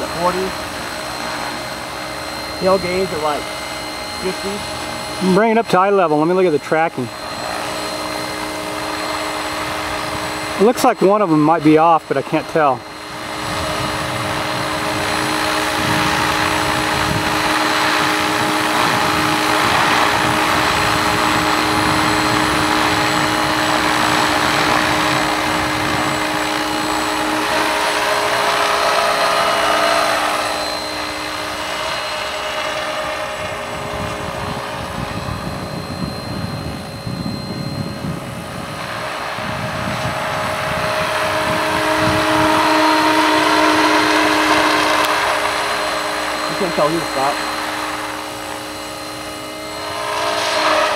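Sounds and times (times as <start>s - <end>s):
model helicopter motor whine: 0.0s - 50.9s
rotor blades whooshing: 0.0s - 50.9s.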